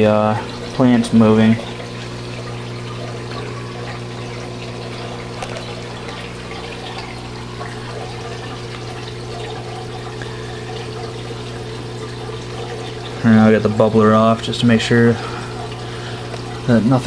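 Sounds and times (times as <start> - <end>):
aquarium water trickling and pouring: 0.0 - 17.0
electric pump hum: 0.0 - 17.0.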